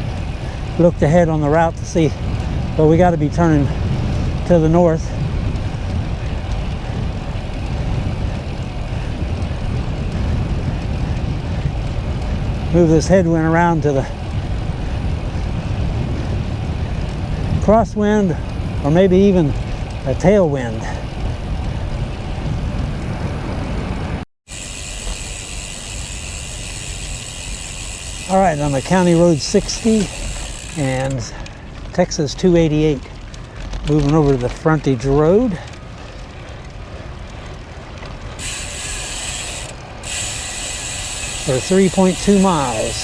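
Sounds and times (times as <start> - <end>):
road noise: 0.0 - 43.0
wind rumbling on microphone: 0.0 - 43.0.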